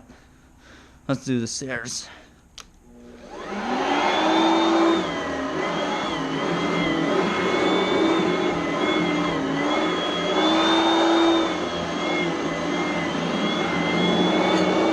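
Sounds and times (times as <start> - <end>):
vacuum cleaner motor whine: 2.8 - 14.9.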